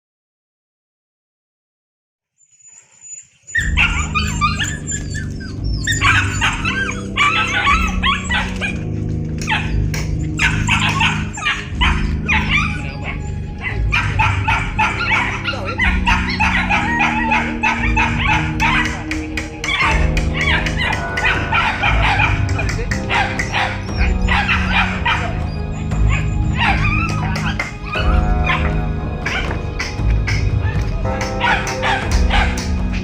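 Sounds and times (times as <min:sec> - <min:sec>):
dogs barking: 0:03.1 - 0:33.0
background music: 0:03.5 - 0:33.0.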